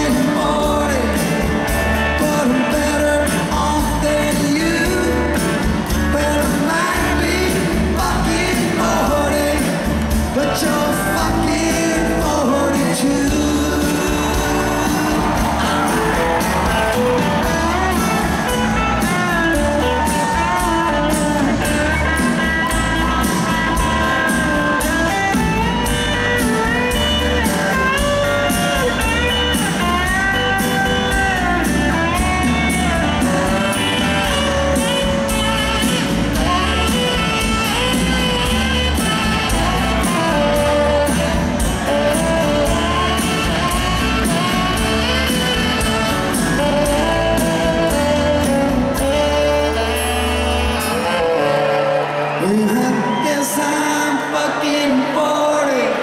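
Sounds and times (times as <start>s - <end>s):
person singing: 0.0s - 56.0s
rock band playing: 0.0s - 56.0s.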